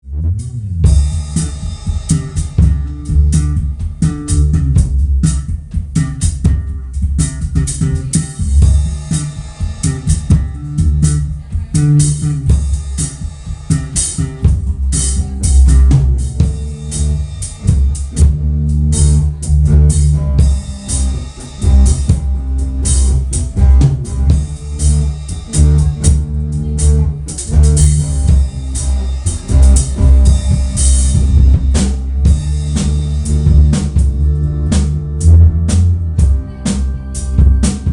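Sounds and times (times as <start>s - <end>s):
bass guitar: 0.0s - 37.9s
drum kit: 0.0s - 37.9s
guitar playing: 0.2s - 37.9s.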